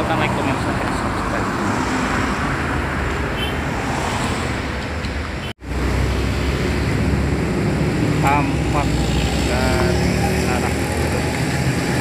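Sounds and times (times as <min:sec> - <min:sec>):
passing street traffic: 0:00.0 - 0:12.0.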